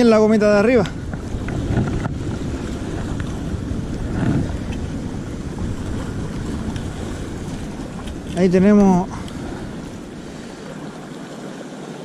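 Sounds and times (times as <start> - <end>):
wind buffeting microphone: 0.0 - 11.6
sea surf: 0.0 - 12.0.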